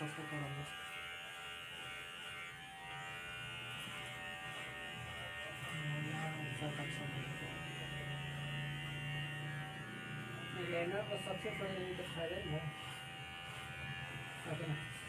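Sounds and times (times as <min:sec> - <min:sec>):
electric hair clipper buzzing: 0:00.0 - 0:15.0.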